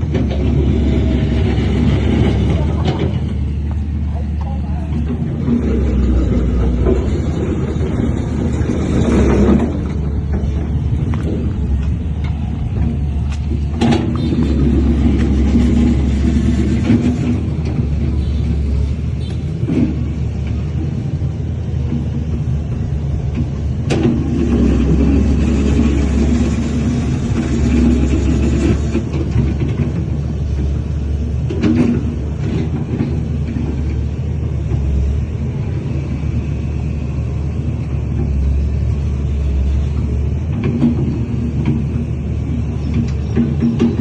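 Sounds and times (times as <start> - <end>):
diesel engine rumble: 0.0 - 44.0.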